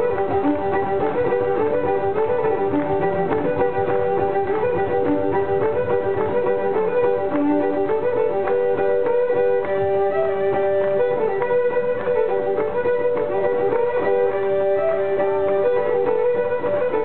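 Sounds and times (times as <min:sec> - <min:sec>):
fiddle bowed in double stops: 0:00.0 - 0:17.0
sticks beating on fiddle strings: 0:00.0 - 0:17.0.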